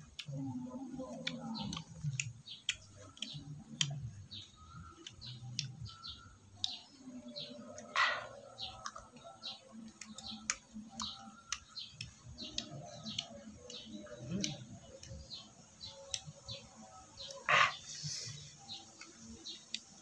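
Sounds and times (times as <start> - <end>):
bird chirping: 0.1 - 20.0.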